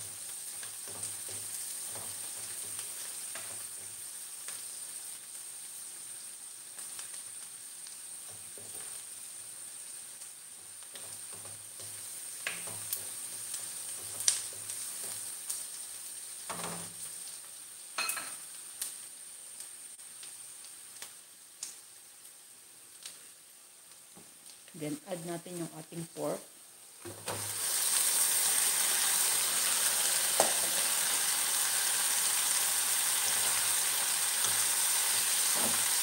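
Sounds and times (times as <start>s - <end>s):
onion sizzling in hot oil: 0.0s - 36.0s.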